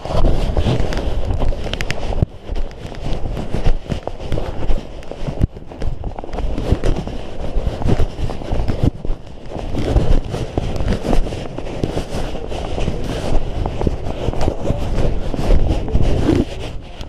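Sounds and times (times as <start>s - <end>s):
camera handling rumble: 0.0s - 17.0s
footsteps crunching on snow: 0.0s - 17.0s.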